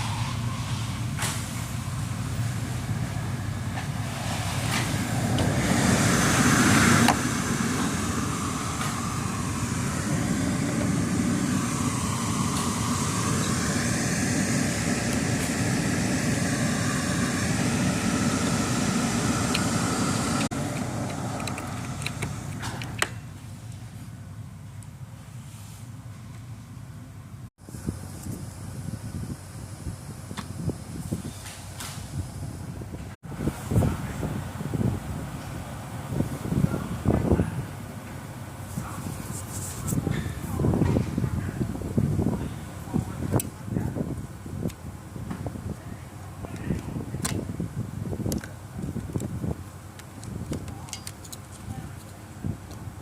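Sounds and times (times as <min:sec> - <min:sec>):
motor vehicle rumble and hiss: 0:00.0 - 0:53.0.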